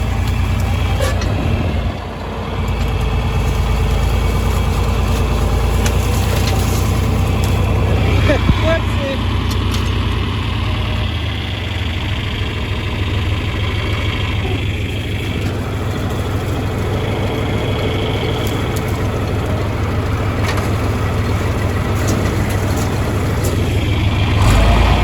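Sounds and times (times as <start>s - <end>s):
tractor engine rumbling: 0.0s - 25.0s.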